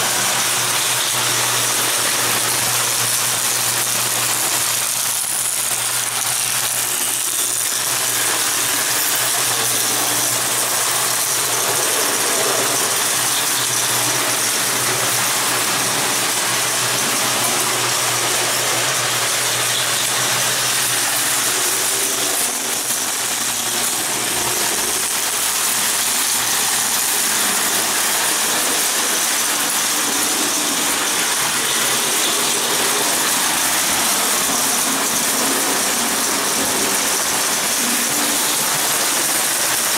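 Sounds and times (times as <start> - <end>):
metal wheels clattering on track: 0.0 - 39.9.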